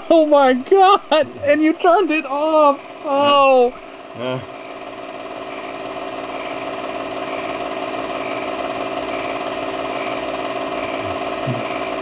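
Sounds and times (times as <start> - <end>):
film projector whirring: 0.0 - 12.0.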